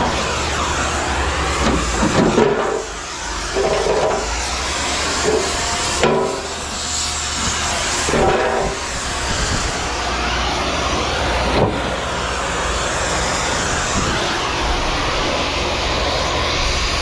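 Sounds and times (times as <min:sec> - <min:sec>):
rushing machine noise: 0:00.0 - 0:17.0.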